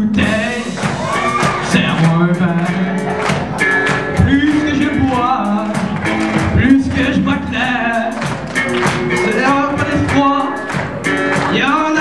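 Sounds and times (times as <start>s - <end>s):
drum kit beating: 0.0s - 12.0s.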